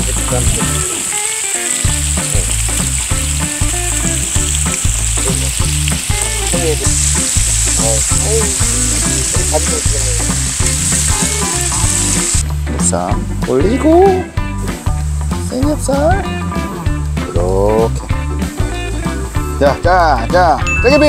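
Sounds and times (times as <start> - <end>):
meat sizzling on a griddle: 0.0 - 12.4, 13.0 - 21.0
background music bass line: 0.0 - 21.0.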